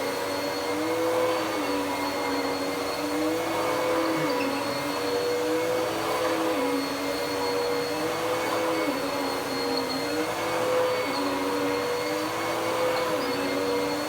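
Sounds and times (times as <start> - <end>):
vacuum cleaner running on carpet: 0.0 - 14.0.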